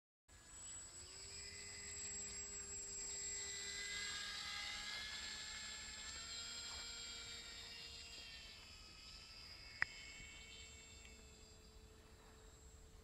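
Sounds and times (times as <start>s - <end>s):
model aircraft motor whine: 0.3s - 13.0s.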